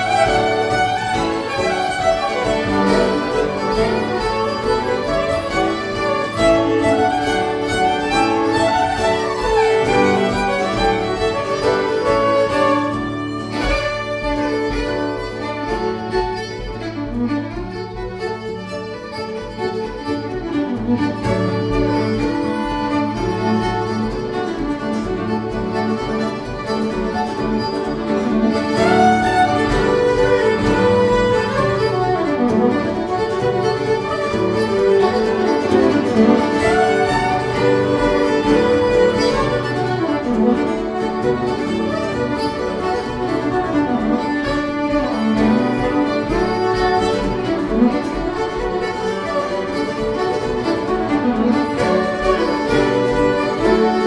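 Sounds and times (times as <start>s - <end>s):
strummed guitar: 0.0s - 54.0s
two fiddles playing lively tune: 0.0s - 54.0s.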